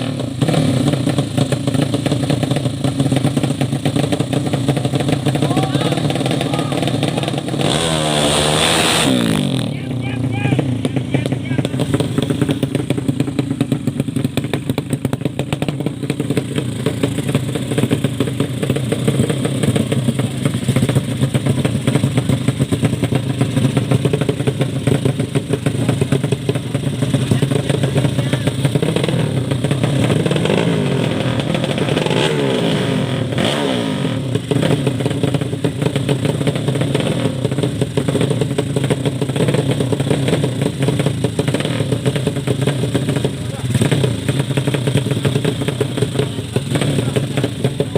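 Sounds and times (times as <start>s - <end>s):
motorcycle engines running loudly: 0.0s - 47.9s
motorcycle revving: 0.0s - 47.9s.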